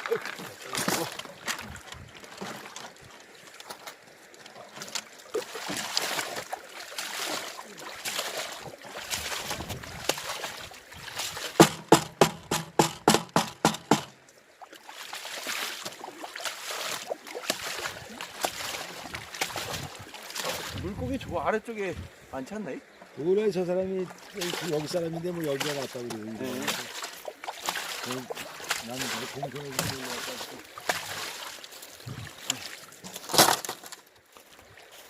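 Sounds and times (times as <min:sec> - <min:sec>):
water sloshing: 0:00.0 - 0:35.0.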